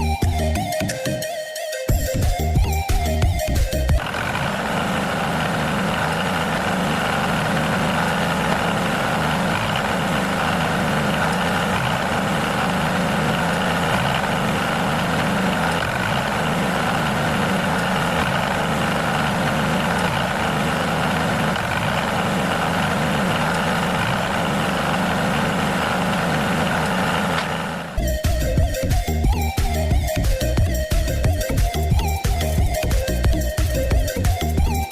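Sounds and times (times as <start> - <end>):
motor humming and whirring: 0.0 - 34.9.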